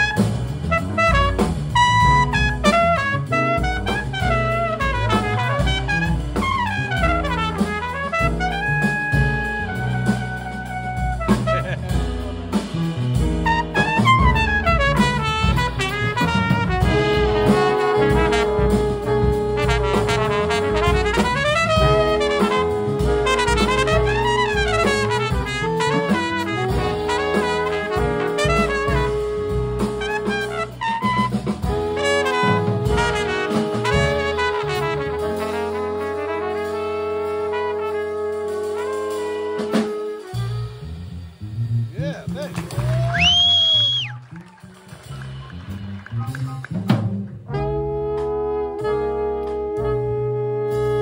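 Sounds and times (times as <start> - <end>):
jazz combo playing: 0.0 - 51.0.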